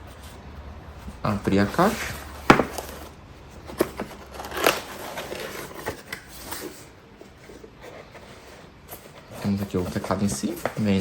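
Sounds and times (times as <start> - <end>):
cardboard rustling: 0.1 - 11.0.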